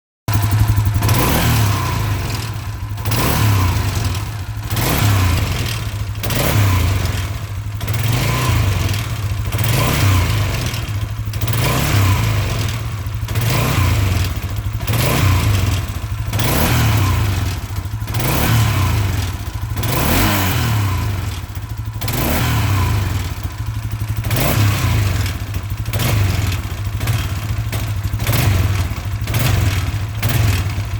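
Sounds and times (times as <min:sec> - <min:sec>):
engine revving: 0:00.3 - 0:30.9
noise on throttle release: 0:00.3 - 0:30.9.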